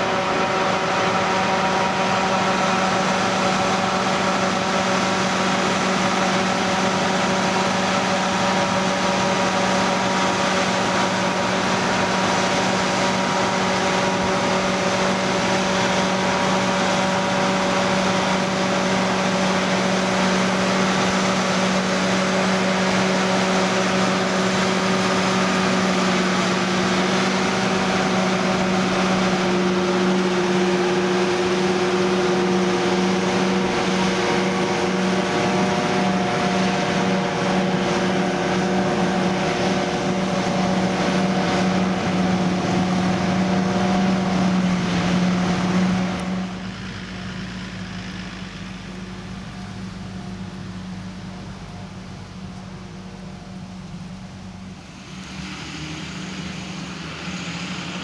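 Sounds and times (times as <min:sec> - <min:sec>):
forage harvester drone: 0:00.0 - 0:58.0.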